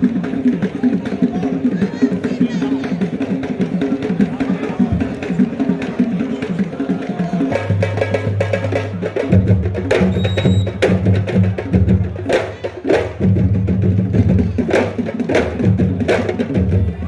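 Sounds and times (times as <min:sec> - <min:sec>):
drums playing fast rhythm: 0:00.0 - 0:17.0.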